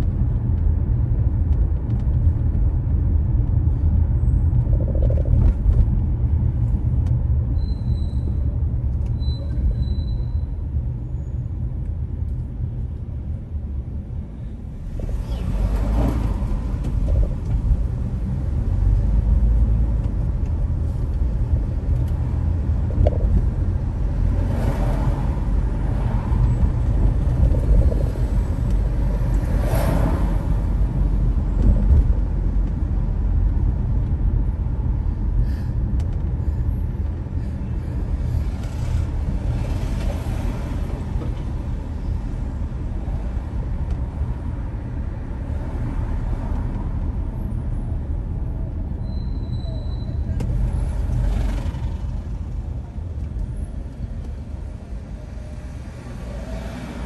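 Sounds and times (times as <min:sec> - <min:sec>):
car engine and road noise: 0:00.0 - 0:57.0
city traffic noise: 0:00.0 - 0:57.0.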